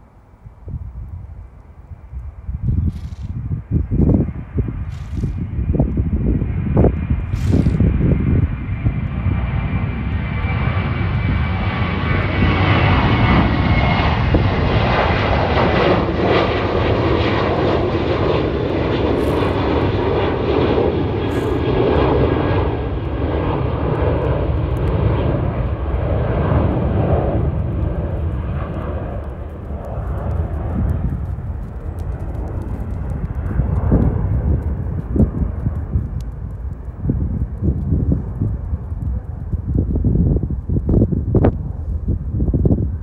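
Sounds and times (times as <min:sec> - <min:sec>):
aircraft flying over: 0:00.0 - 0:43.0.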